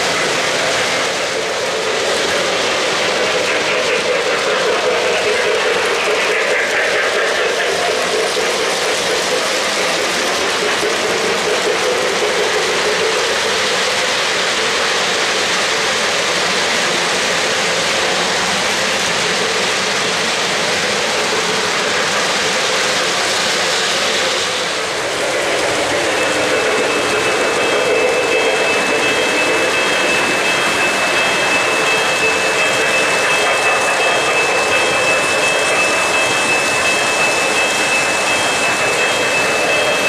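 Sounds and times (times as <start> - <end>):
model train wheels rattling on track: 0.0 - 40.0.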